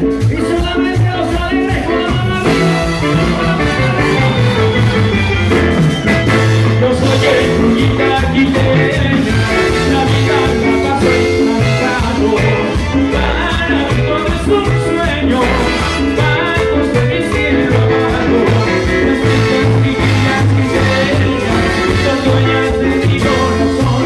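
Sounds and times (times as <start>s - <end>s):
salsa dance band playing: 0.0s - 24.0s.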